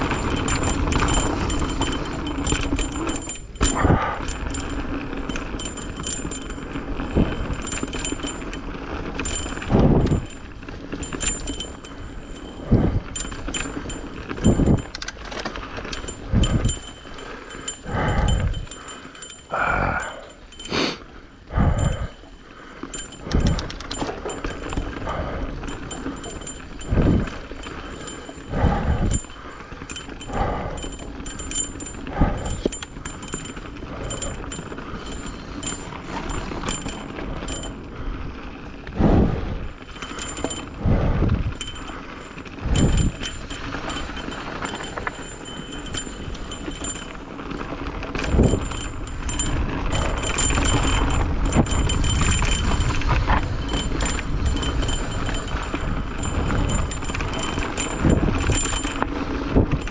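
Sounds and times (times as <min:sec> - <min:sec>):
bike tyres and components rattling: 0:00.0 - 0:59.9.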